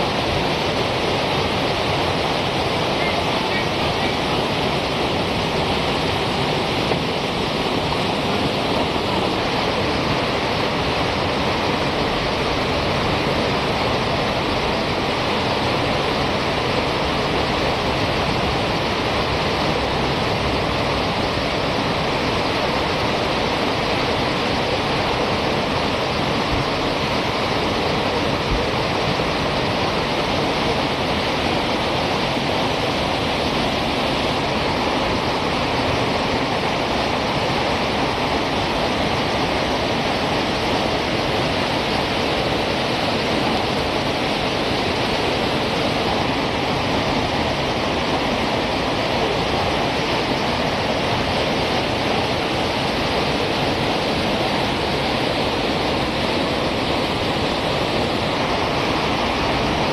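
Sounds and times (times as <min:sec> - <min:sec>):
river rapids rushing: 0:00.0 - 0:59.9.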